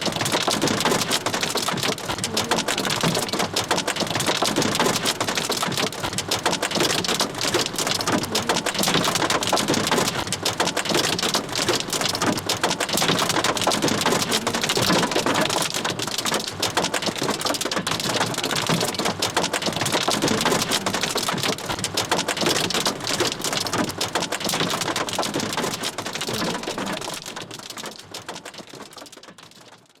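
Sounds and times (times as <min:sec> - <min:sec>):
hail drumming on metal car roof: 0:00.0 - 0:29.9.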